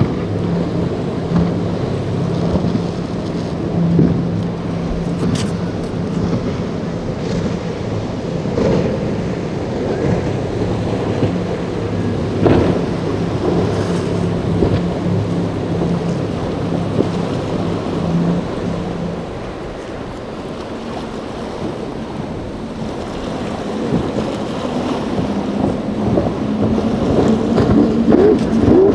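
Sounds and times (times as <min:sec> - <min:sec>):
boat engine drone: 0:00.0 - 0:28.9
water rushing and spray: 0:00.0 - 0:28.9
water splashes: 0:00.0 - 0:28.9.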